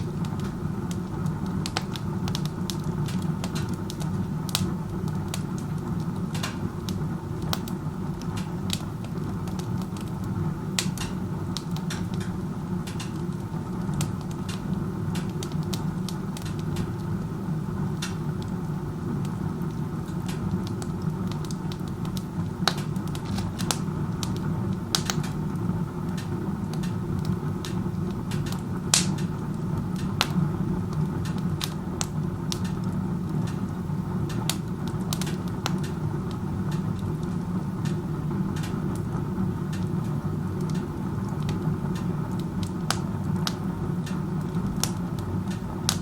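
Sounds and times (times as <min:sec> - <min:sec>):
burning wood crackling and popping: 0:00.0 - 0:46.0.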